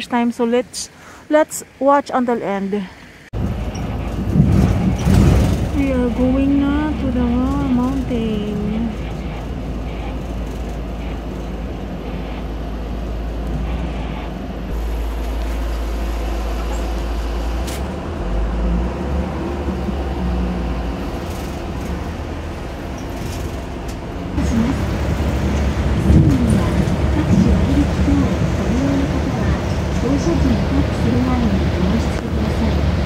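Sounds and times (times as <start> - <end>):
bus engine and road rumble: 0.0 - 33.0.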